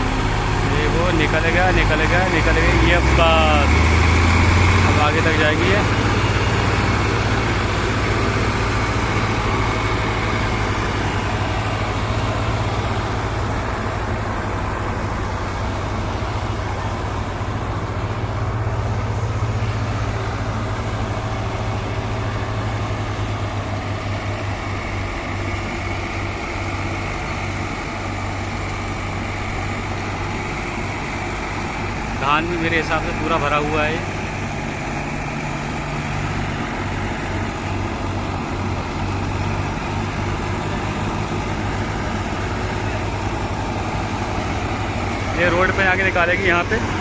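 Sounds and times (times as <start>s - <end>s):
tractor diesel engines droning: 0.0s - 47.0s.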